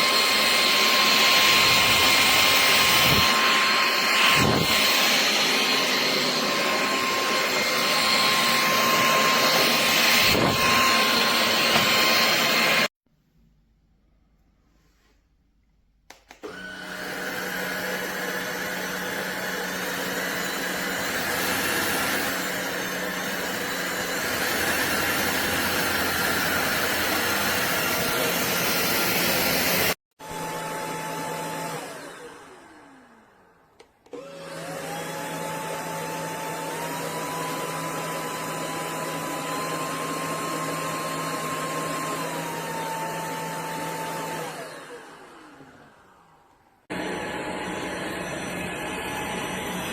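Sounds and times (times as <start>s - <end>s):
vacuum cleaner motor whine: 0.0s - 12.9s, 16.3s - 49.9s.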